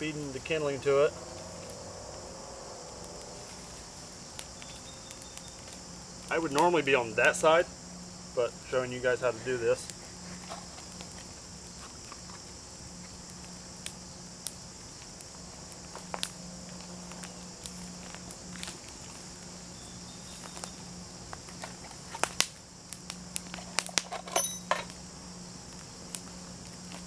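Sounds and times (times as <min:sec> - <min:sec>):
insect chorus: 0:00.0 - 0:27.0
kindling fire crackling: 0:00.0 - 0:27.0.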